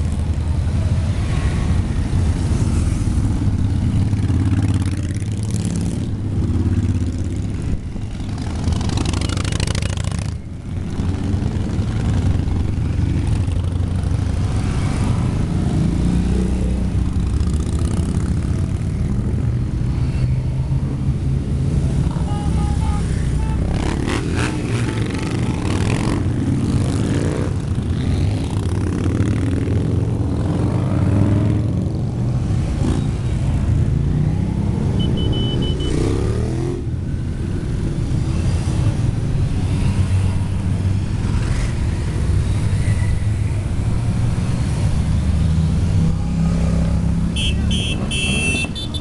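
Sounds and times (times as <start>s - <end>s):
motorcycles riding past: 0.0s - 49.0s.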